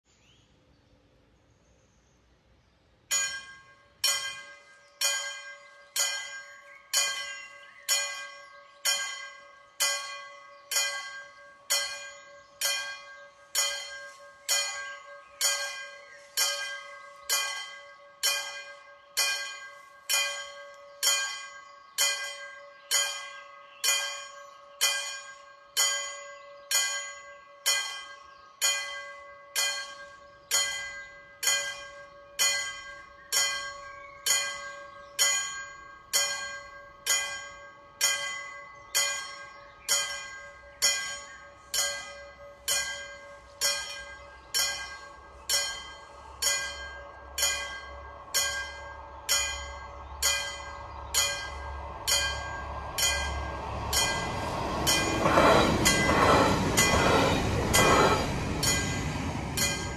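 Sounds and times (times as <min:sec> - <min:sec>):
level crossing warning bell: 0:03.1 - 0:59.9.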